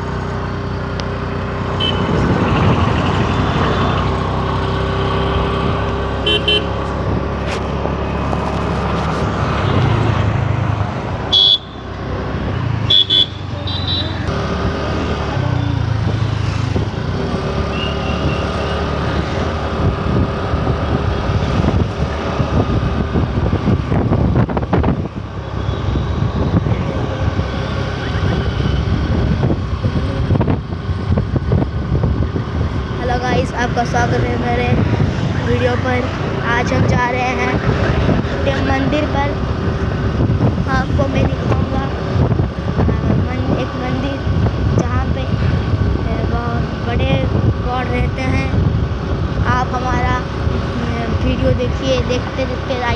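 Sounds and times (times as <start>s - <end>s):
scooter engine and road noise: 0.0s - 52.9s.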